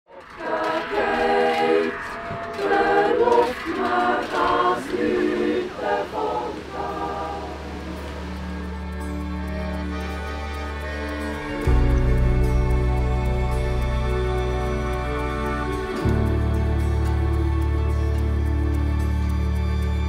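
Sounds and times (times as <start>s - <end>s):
choir singing unaccompanied: 0.1s - 19.6s
soft low musical drone: 0.1s - 20.0s.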